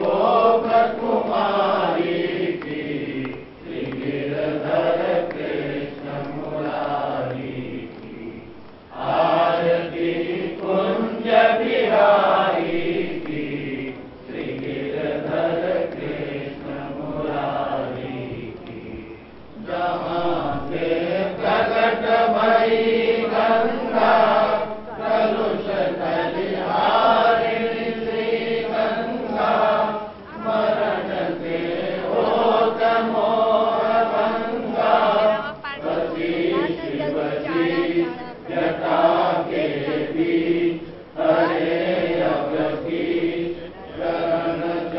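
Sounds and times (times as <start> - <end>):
crowd chanting a hymn: 0.0 - 44.9.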